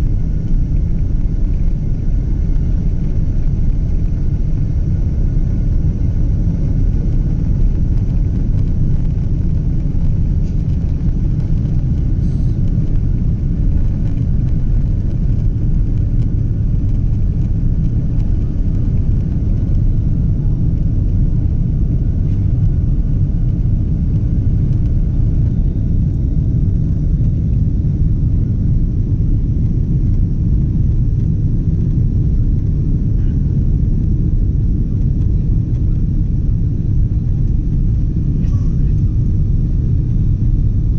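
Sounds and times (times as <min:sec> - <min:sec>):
aircraft cabin engine rumble: 0:00.0 - 0:40.9
faint steady whine: 0:00.0 - 0:40.9.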